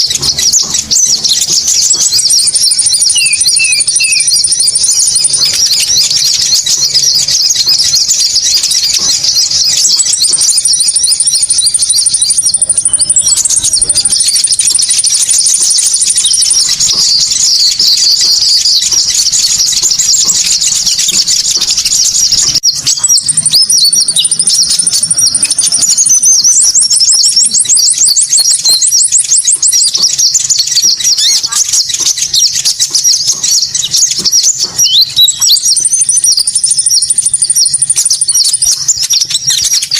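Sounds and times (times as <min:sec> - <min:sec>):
birds chattering and twittering: 0:00.0 - 0:39.9
high buzzing bird trills: 0:00.0 - 0:39.9.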